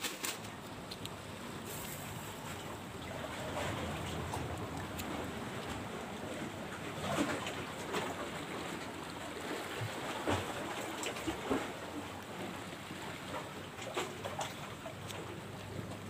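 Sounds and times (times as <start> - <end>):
water lapping against rocks: 0.0 - 16.0
wind: 0.0 - 16.0.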